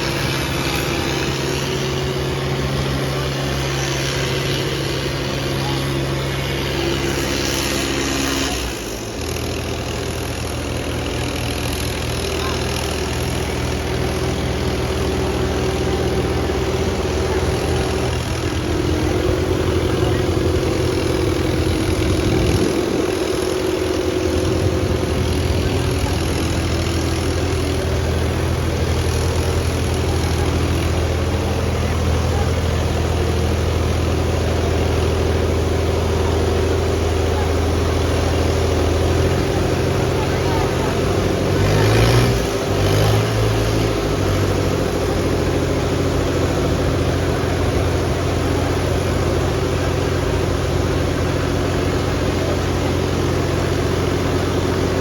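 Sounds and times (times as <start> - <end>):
diesel tractor engines under load: 0.0 - 55.0.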